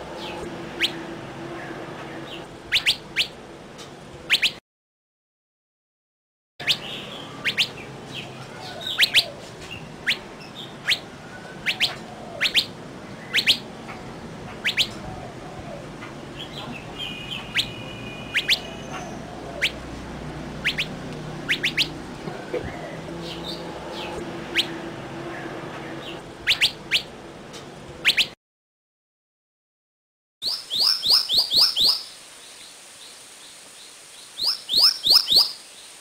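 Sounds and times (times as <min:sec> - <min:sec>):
birds chirping: 0:00.0 - 0:04.6, 0:06.6 - 0:28.4, 0:30.4 - 0:36.0.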